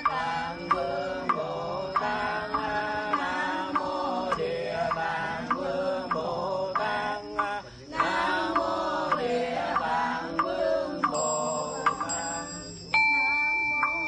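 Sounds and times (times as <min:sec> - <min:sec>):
group chanting in unison: 0:00.0 - 0:12.5.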